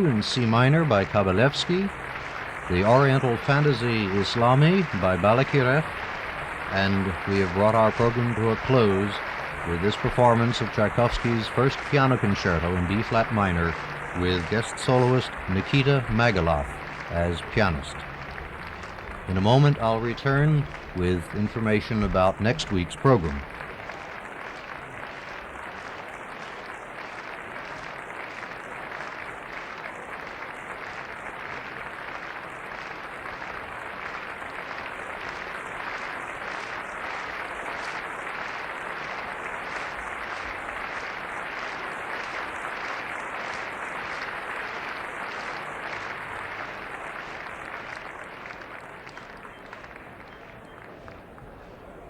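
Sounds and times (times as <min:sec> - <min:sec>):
audience applauding: 0:00.0 - 0:52.0.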